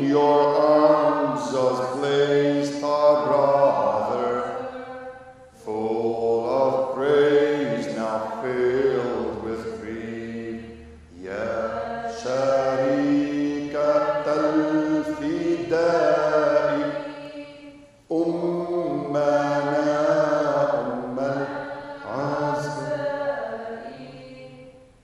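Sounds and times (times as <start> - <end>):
slow hymn singing: 0.0 - 25.0.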